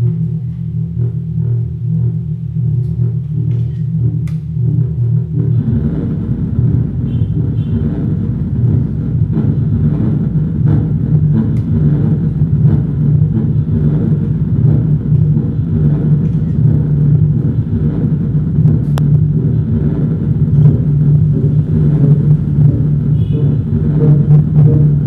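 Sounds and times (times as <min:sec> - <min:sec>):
electronic noise music: 0:00.0 - 0:25.0.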